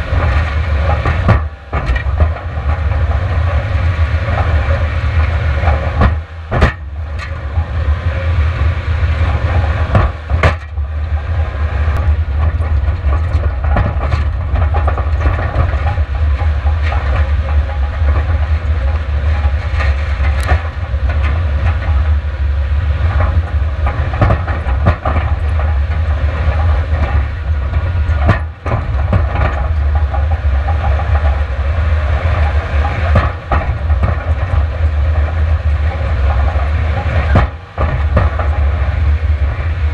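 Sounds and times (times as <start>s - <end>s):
car rattling over ruts: 0.0s - 39.9s
wind and road noise rumble: 0.0s - 39.9s.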